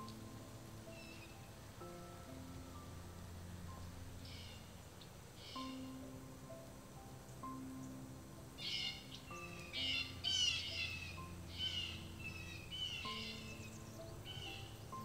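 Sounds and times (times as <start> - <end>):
soft piano music: 0.0 - 15.0
songbirds chirping: 0.0 - 15.0.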